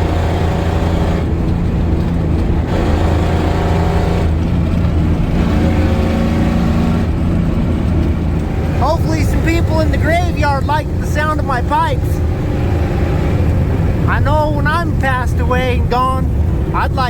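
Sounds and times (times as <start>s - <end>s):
diesel engine exhaust: 0.0s - 17.0s.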